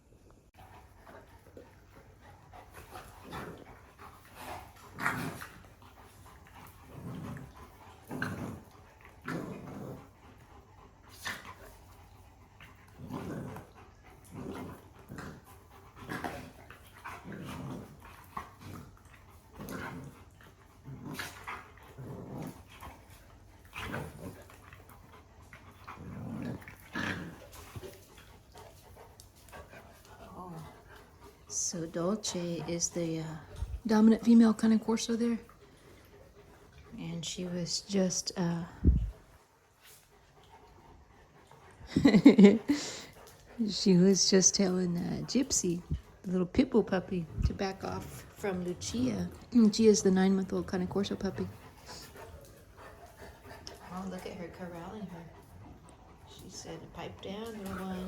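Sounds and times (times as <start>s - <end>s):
dogs growling: 0.6s - 58.0s.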